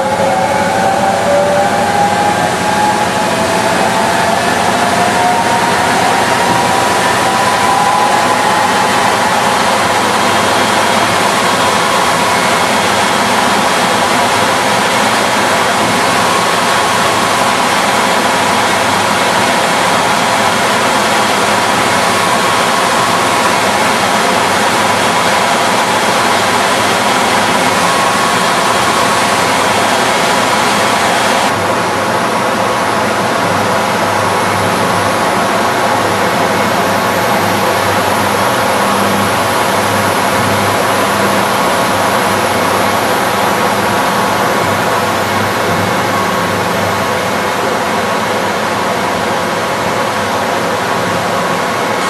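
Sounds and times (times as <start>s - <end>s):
centrifuge running: 0.0s - 49.5s.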